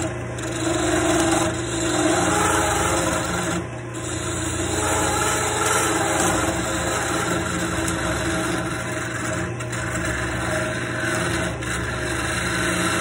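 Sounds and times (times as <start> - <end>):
lathe motor hum: 0.0 - 13.0
lathe tool cutting wood: 0.0 - 13.0.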